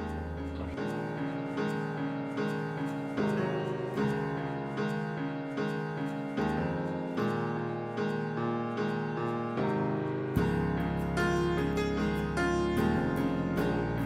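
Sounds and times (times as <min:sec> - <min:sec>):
piano playing repeated chords: 0:00.0 - 0:14.0.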